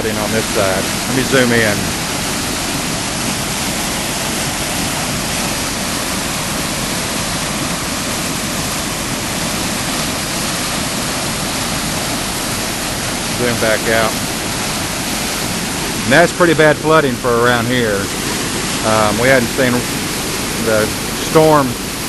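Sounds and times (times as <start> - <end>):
floodwater rushing in creek: 0.0 - 22.0.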